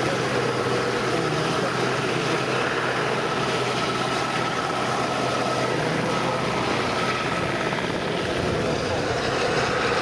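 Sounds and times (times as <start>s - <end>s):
helicopter rotor and engine noise: 0.0s - 10.0s
high turbine whine: 0.0s - 10.0s.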